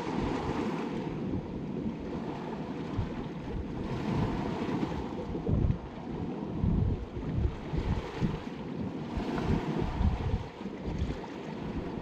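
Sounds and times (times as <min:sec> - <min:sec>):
wind gusting on microphone: 0:00.0 - 0:12.0.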